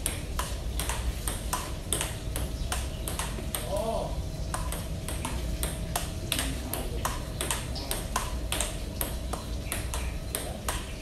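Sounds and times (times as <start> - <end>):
table tennis ball clicking: 0.0 - 3.9, 4.5 - 11.0.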